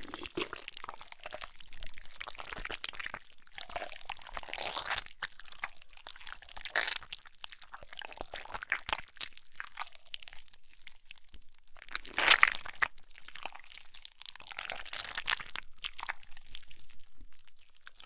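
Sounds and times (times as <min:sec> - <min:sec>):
wet squelching and squishing: 0:00.0 - 0:18.0.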